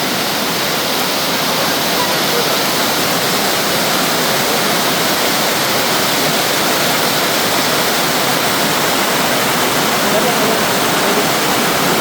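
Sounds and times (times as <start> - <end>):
water cascading down steps: 0.0 - 12.0.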